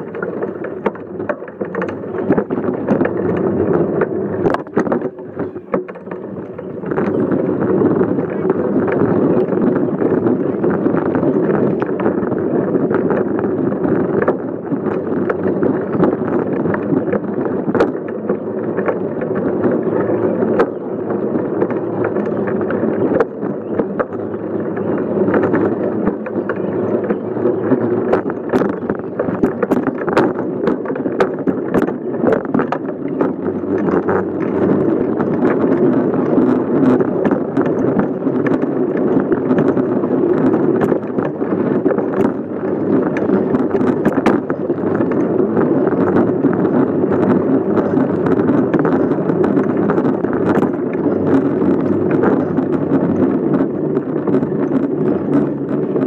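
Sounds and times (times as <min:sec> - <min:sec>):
bicycle tyres rumbling: 0:00.0 - 0:56.0
bike rattles and knocks: 0:00.0 - 0:56.0.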